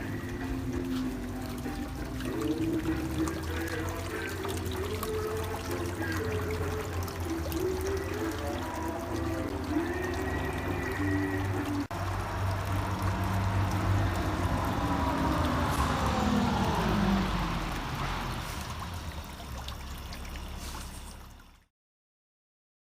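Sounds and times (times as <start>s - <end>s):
fountain water splashing into pond: 0.0s - 21.7s.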